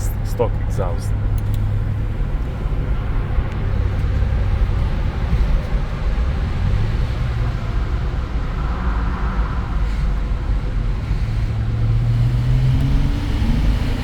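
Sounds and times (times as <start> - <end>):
car engine pulling: 0.0 - 14.0
road noise: 0.0 - 14.0.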